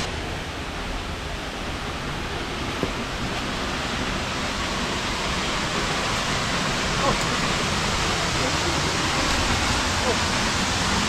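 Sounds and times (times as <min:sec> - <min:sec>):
loud waterfall rushing: 0:00.0 - 0:11.0.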